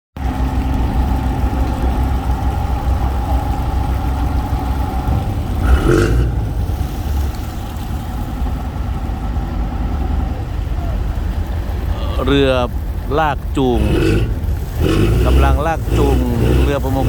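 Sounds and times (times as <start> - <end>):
boat engine rumbling: 0.2 - 17.0.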